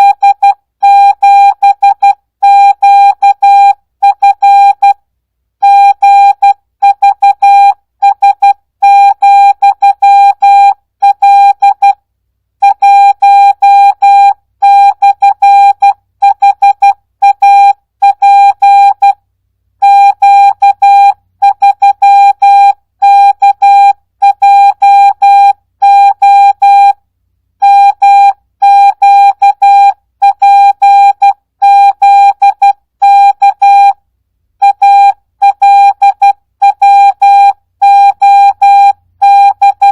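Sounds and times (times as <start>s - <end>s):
morse code tone: 0.0s - 5.0s, 5.6s - 12.0s, 12.6s - 19.2s, 19.8s - 27.0s, 27.6s - 34.0s, 34.6s - 39.9s.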